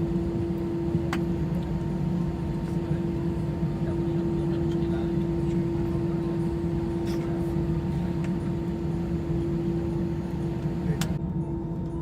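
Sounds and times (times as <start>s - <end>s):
aircraft cabin hum: 0.0s - 12.0s.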